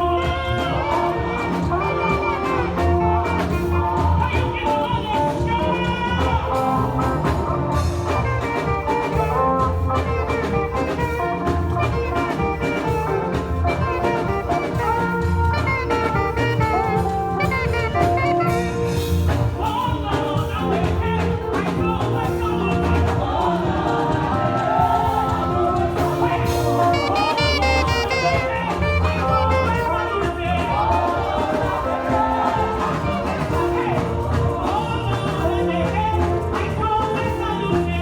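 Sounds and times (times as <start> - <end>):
brass playing: 0.0 - 38.0
drum kit: 0.0 - 38.0
praise band music: 0.0 - 38.0.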